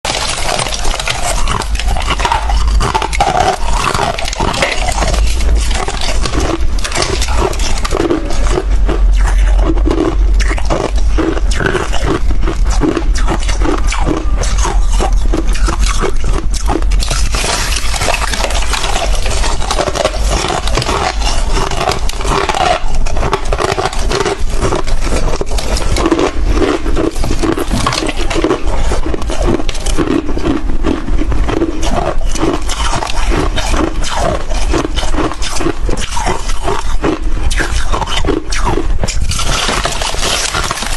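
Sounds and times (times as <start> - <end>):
crunching and chewing frost: 0.0 - 40.9
deep rumble: 0.0 - 40.9.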